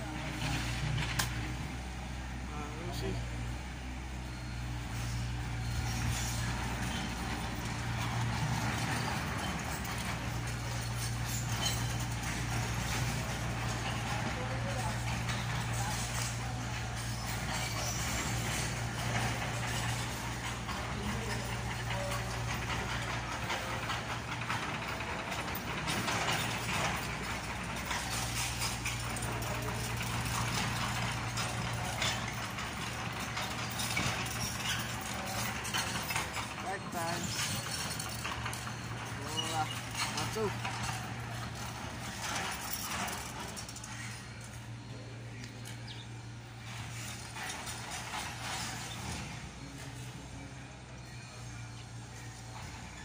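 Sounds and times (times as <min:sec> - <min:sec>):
excavator engine: 0:00.0 - 0:53.0
steel tracks rattling: 0:00.0 - 0:53.0.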